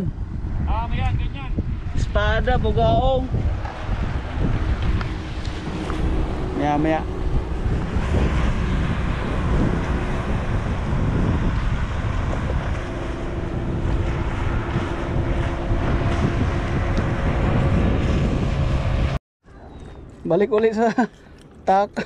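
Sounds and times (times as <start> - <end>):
wind buffeting microphone: 0.0 - 22.0
outboard boat engine hum: 3.3 - 22.0.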